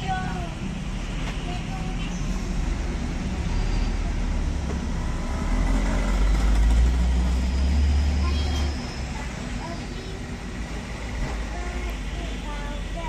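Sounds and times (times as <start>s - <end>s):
heavy vehicle passing: 0.0s - 13.0s
road traffic: 0.0s - 13.0s.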